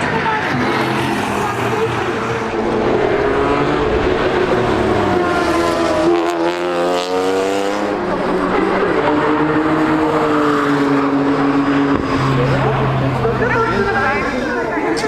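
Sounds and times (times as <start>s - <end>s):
race car engines passing: 0.0s - 15.0s.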